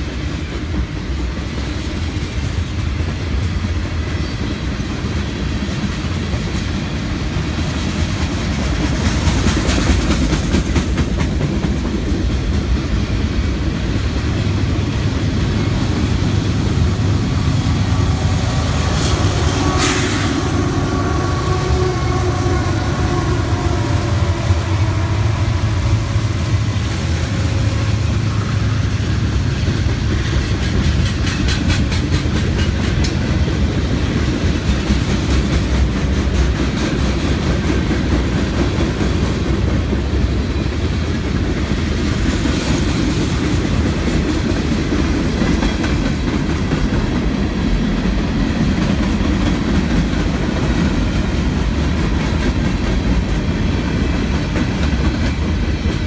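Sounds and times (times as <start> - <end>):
clickety-clack over rail joints: 0.0 - 25.1, 26.0 - 56.0
freight train wheels rumbling: 0.0 - 56.0.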